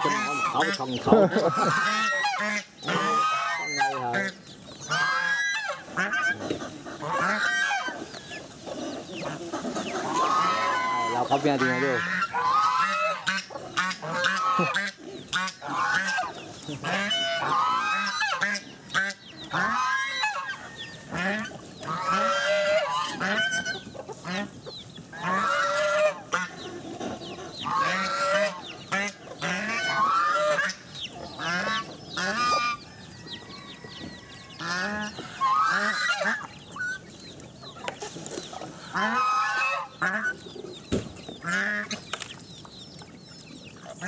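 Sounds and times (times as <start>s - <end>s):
geese honking: 0.0s - 32.9s, 33.7s - 42.2s.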